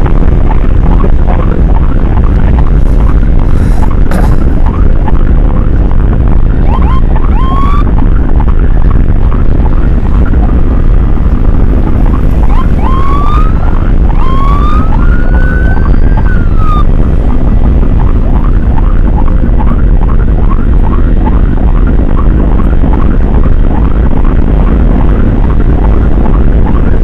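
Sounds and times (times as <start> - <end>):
emergency siren whooping: 0.0 - 4.0, 4.6 - 27.0
motorcycle engine at speed: 0.0 - 27.0
wind noise: 0.0 - 27.0.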